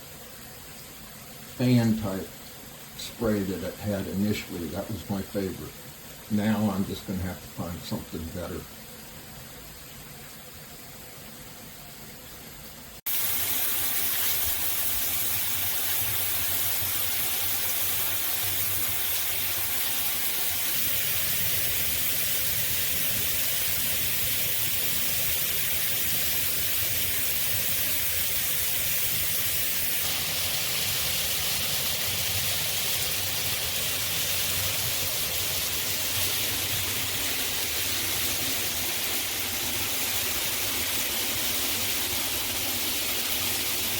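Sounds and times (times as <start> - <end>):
shower head spraying water: 0.0 - 8.6, 13.0 - 43.9.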